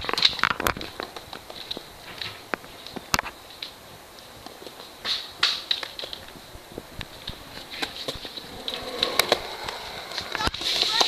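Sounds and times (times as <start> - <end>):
skateboard clicks on concrete: 0.0 - 6.4, 7.0 - 11.0.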